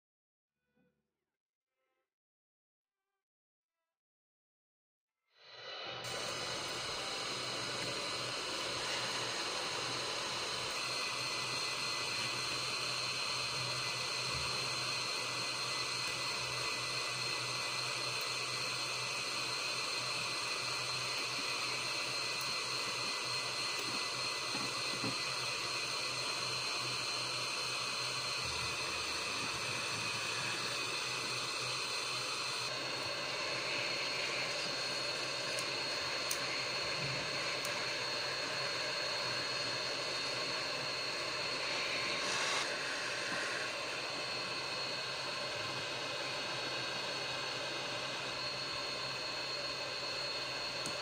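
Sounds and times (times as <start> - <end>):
hot air gun hissing: 5.5 - 51.0.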